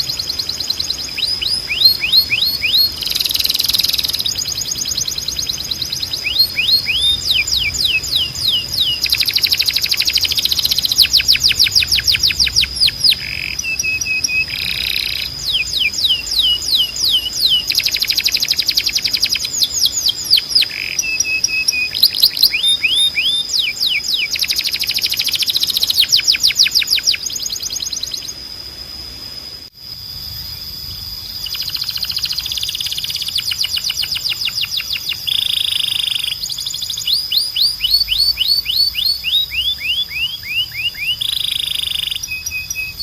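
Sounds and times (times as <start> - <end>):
canary singing: 0.0 - 28.4, 31.2 - 43.0.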